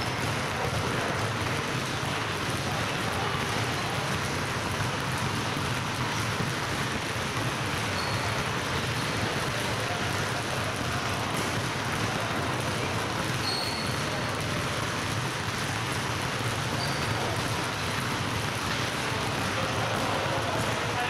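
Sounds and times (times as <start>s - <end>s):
basketballs dribbling on wooden floor: 0.0s - 21.0s.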